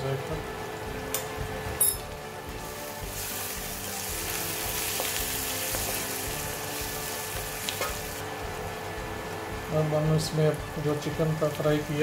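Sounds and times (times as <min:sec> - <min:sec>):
chillies and onions sizzling in oil: 0:00.0 - 0:12.0.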